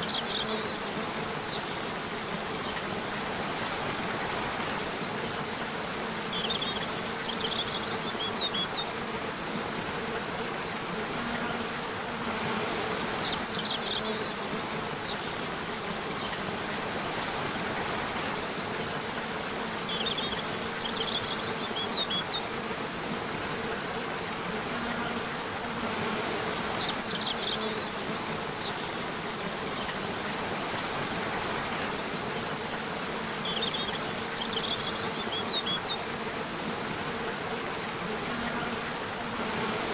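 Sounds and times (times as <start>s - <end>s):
low insect buzz: 0.0s - 39.9s
running water: 0.0s - 39.9s.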